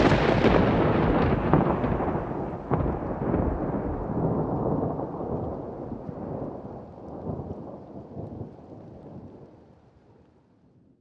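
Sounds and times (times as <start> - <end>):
thunder rumbling: 0.0 - 9.5
thunder crackles: 0.0 - 9.6
steady rain: 0.0 - 10.7.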